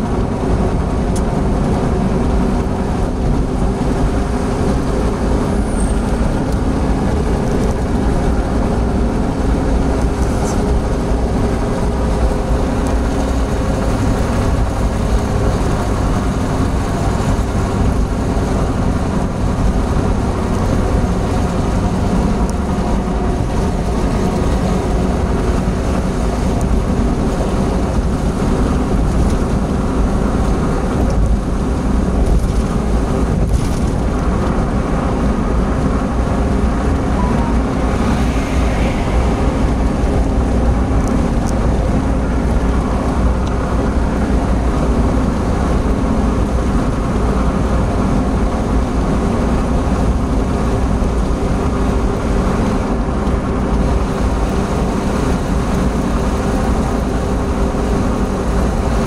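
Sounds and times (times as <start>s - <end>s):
car engine drone: 0.0s - 59.0s
tyre and wind noise: 0.0s - 59.0s.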